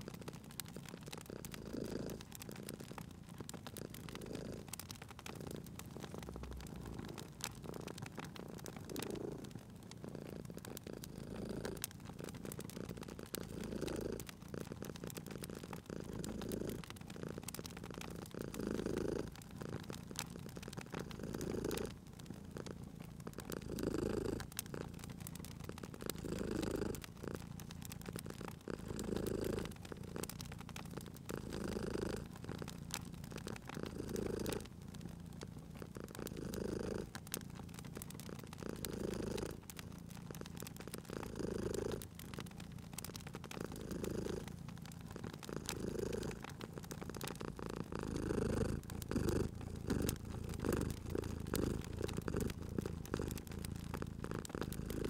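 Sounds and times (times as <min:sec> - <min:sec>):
cat purring: 0:00.0 - 0:55.0
wood fire crackling: 0:00.0 - 0:55.0.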